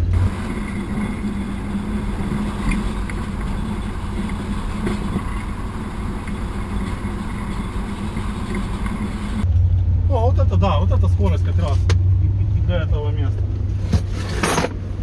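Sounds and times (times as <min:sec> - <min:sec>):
diesel locomotive engine droning: 0:00.0 - 0:15.0.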